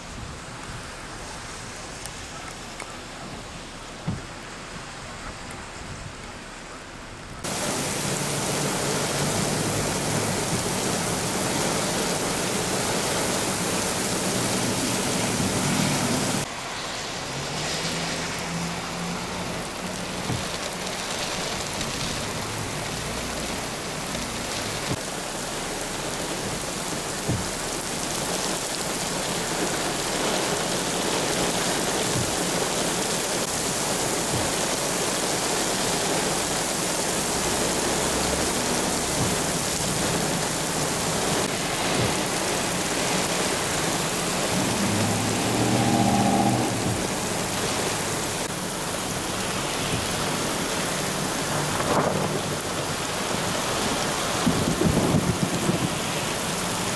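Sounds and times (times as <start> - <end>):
torrential rain pouring: 0.0 - 56.9.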